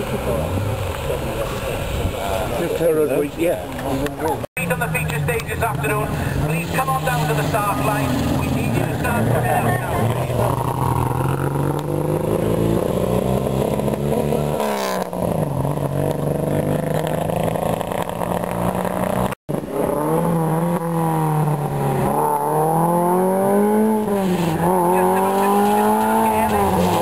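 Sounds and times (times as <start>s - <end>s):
race car engines accelerating: 0.0s - 27.0s.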